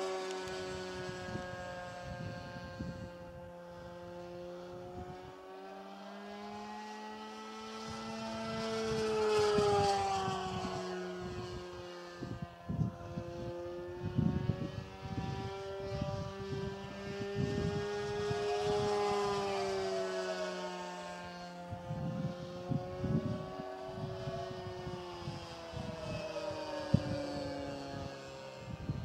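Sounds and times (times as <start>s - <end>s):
wind buffeting microphone: 0.0s - 5.4s, 7.7s - 29.0s
model airplane motor whine: 0.0s - 29.0s.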